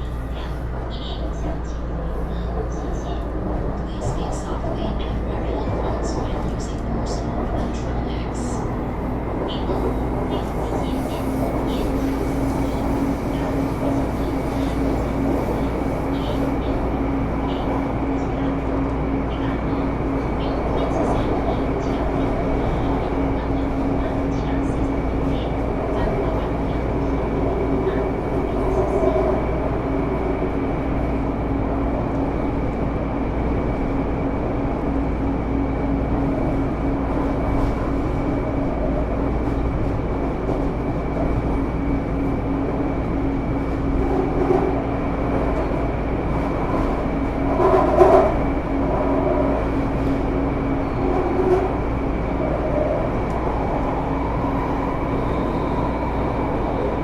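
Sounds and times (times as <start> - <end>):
train interior running rumble: 0.0 - 57.0.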